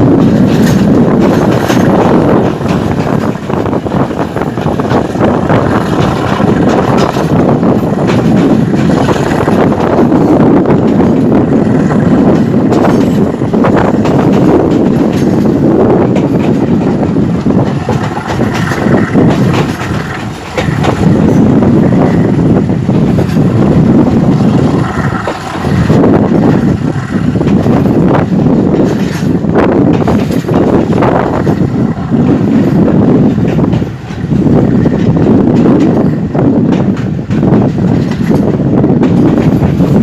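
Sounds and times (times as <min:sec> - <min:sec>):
train rumbling along track: 0:00.0 - 0:40.0
wheels clicking over rails: 0:00.0 - 0:40.0.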